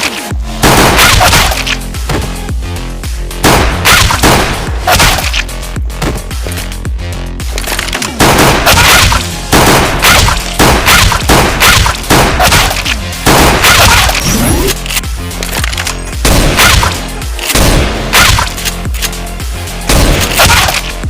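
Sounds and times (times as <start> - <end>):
music with heavy bass: 0.0 - 21.0.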